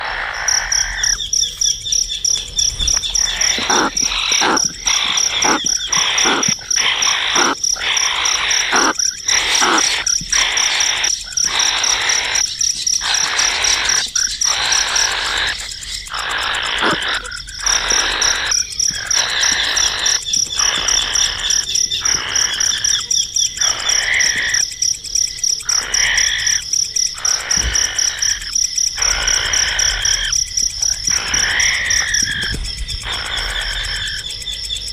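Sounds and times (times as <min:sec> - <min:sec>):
baby birds begging calls: 0:00.0 - 0:34.9.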